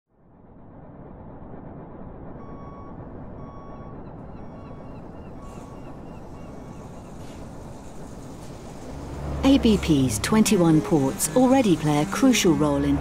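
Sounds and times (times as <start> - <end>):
low rumble of machinery: 0.1 - 13.0
reversing alarm beeping: 2.4 - 13.0.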